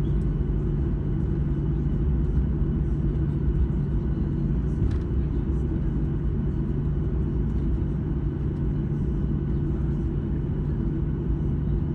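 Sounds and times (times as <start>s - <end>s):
constant low hum: 0.0s - 11.9s
jet engines rumbling in cabin: 0.0s - 11.9s.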